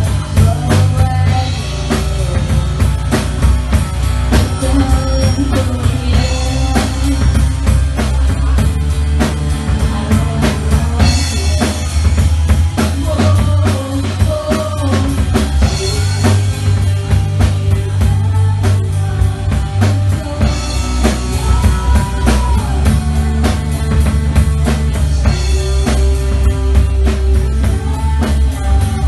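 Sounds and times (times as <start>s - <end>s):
drum kit beating: 0.0s - 29.0s
heavy bass line: 0.0s - 29.0s
live rock band playing: 0.0s - 29.0s
voice or lead guitar melody: 0.0s - 29.0s.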